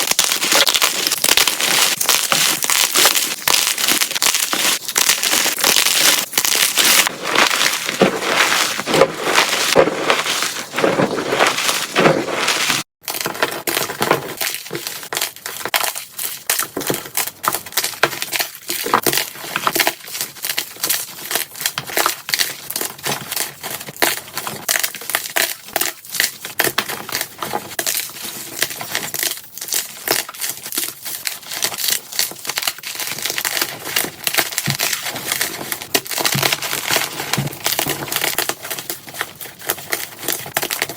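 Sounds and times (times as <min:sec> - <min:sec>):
chalk crunching and crumbling: 0:00.0 - 0:40.9.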